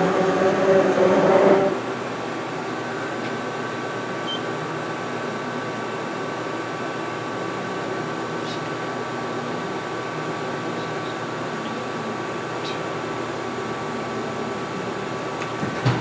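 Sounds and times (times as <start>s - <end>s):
idle machine hum: 0.0s - 15.6s.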